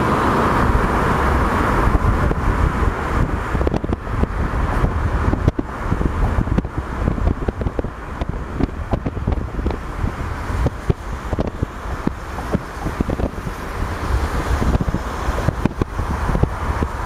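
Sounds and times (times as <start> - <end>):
traffic rumble from moving car: 0.0 - 17.0
wind buffeting microphone: 0.0 - 17.0.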